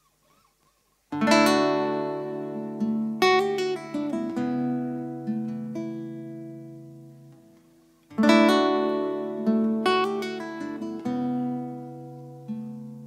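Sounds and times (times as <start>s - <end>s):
acoustic guitar chords and plucked notes: 1.1s - 13.0s.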